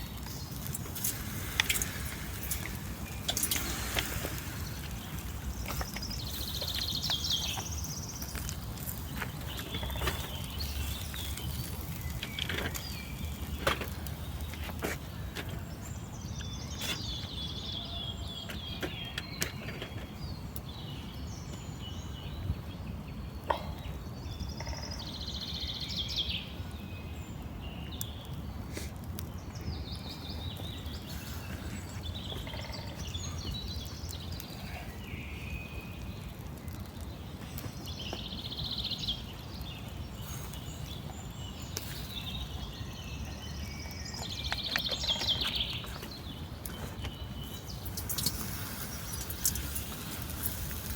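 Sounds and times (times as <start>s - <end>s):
birds chirping and calling: 0.0s - 50.9s.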